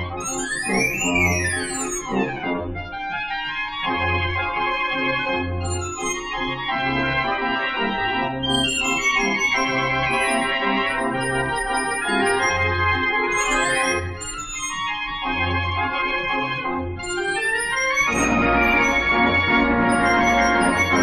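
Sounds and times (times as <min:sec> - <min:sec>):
barrel organ playing a tune: 0:00.0 - 0:21.0.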